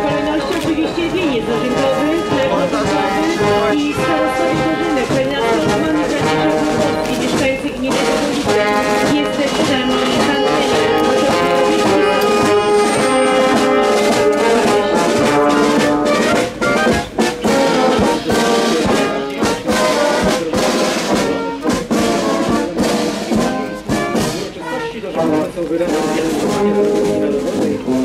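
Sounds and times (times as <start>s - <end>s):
brass band playing chords: 0.0s - 28.0s
sharp drum strokes: 1.6s - 28.0s.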